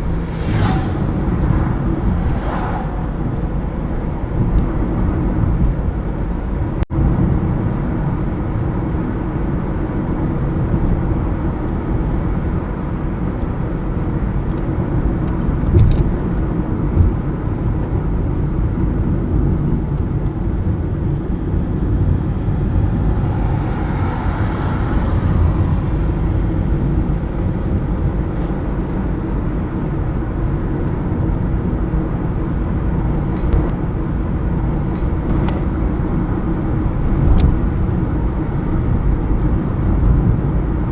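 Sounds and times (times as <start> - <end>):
car tyre and engine rumble: 0.0 - 40.9.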